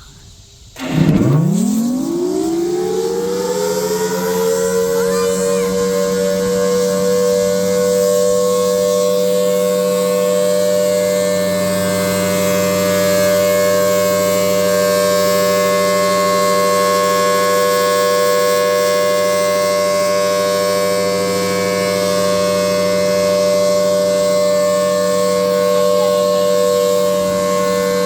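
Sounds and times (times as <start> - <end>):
warning siren wailing: 0.8 - 28.0.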